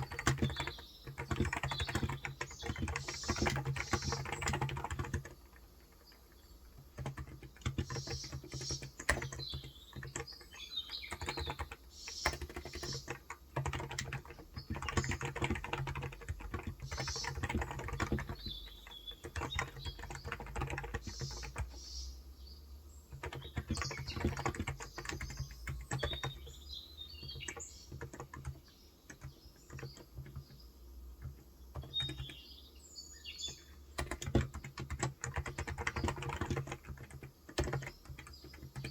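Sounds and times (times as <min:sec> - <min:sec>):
faint bird chirps: 0:00.0 - 0:05.3, 0:06.0 - 0:38.9
keyboard typing: 0:00.0 - 0:21.8, 0:23.1 - 0:26.6, 0:27.2 - 0:30.6, 0:31.2 - 0:32.4, 0:33.4 - 0:38.9.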